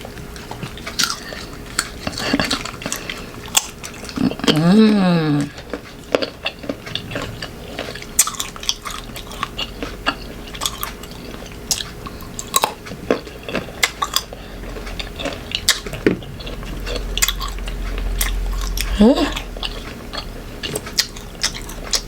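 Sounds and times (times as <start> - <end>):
chewing crunchy mango: 0.0 - 22.0
wet mouth sounds: 0.6 - 22.0.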